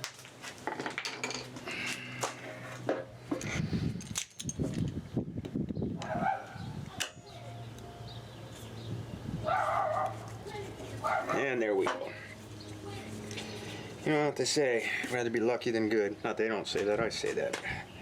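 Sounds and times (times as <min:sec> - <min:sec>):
steady low hum: 0:01.4 - 0:18.0.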